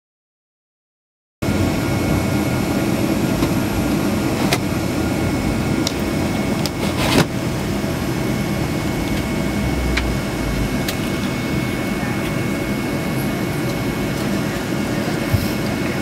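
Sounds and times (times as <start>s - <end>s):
airliner cabin roar: 1.4s - 16.0s
faint steady whines: 1.4s - 16.0s.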